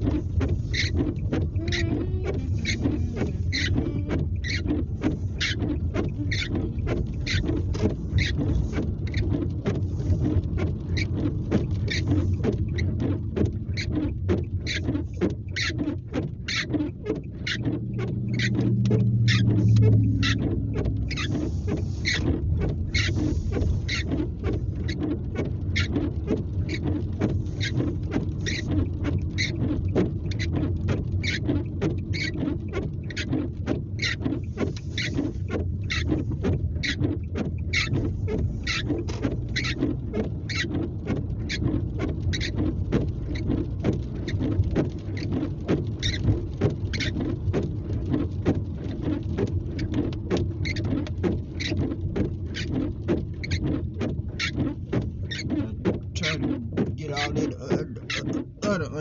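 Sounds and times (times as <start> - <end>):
engine and tyres on wet road: 0.0 - 59.0
rain pattering on car roof: 0.0 - 59.0.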